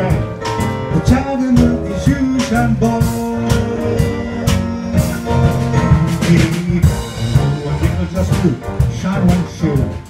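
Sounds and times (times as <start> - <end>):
bass line: 0.0 - 10.0
live band playing: 0.0 - 10.0
steady drum beat: 0.0 - 10.0.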